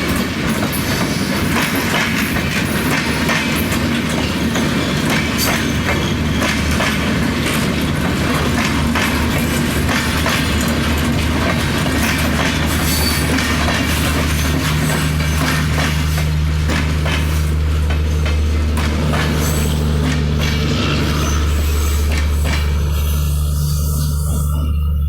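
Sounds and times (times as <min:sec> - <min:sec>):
train wheels clacking over rail joints: 0:00.0 - 0:24.6
low train rumble: 0:00.0 - 0:25.0.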